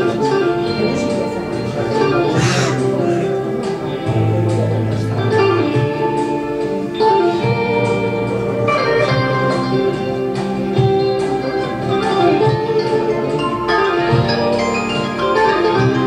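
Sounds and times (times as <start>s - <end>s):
instrumental music with held chords: 0.0s - 16.0s.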